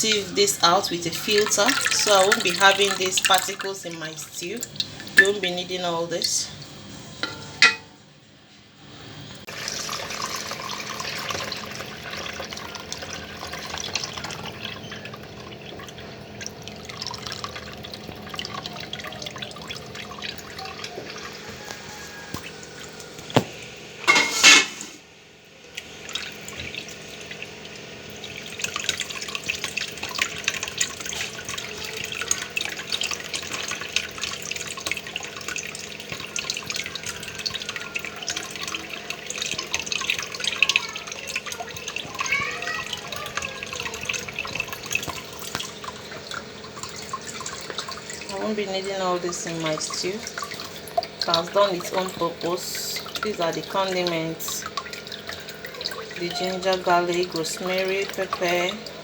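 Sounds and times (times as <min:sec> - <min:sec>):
liquid trickling through a sieve: 0:00.0 - 0:08.0, 0:09.4 - 0:25.0, 0:25.6 - 0:59.0.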